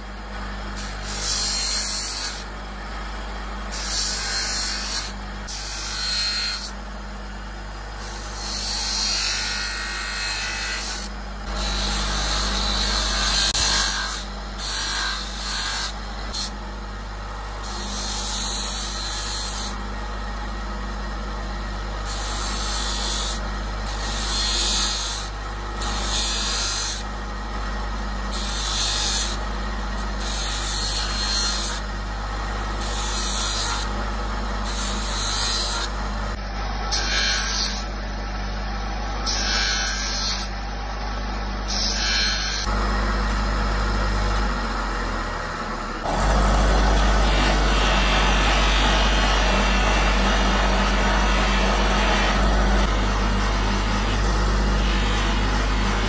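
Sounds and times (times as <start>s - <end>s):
grinding wheel motor hum: 0.0s - 56.0s.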